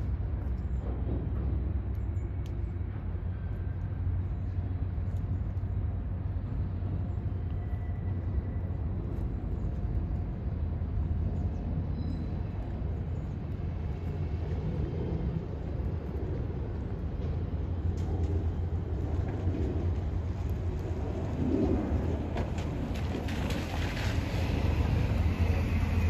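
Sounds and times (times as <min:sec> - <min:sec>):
diesel locomotive engine rumble: 0:00.0 - 0:26.0.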